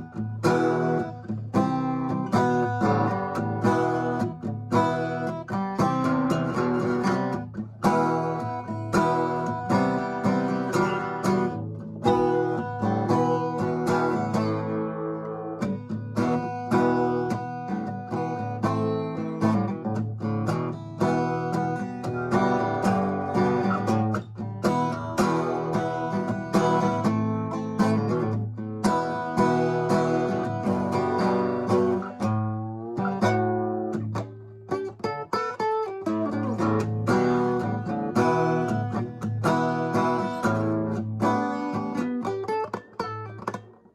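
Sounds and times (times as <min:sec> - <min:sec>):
acoustic guitar playing: 0:00.0 - 0:43.9.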